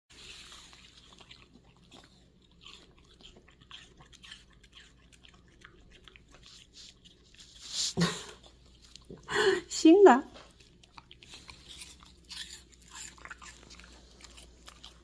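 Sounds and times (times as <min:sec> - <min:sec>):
dog crunching apple: 0:00.2 - 0:09.2, 0:10.4 - 0:15.0.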